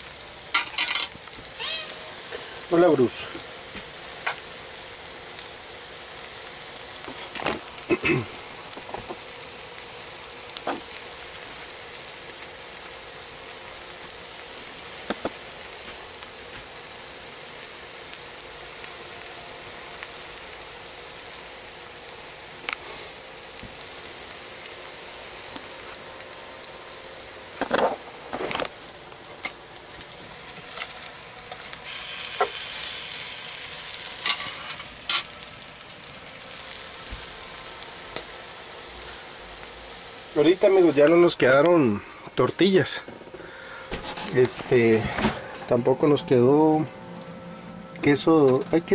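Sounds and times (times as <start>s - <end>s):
food sizzling in frying pan: 0.0s - 48.9s.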